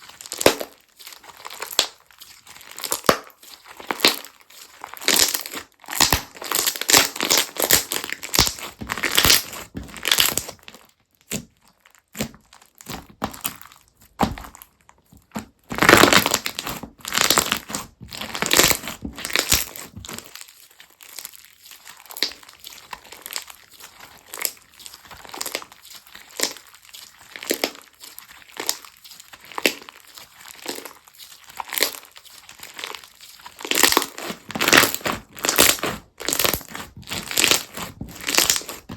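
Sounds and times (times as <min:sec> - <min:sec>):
crunchy slime crackling and popping: 0:00.0 - 0:38.9.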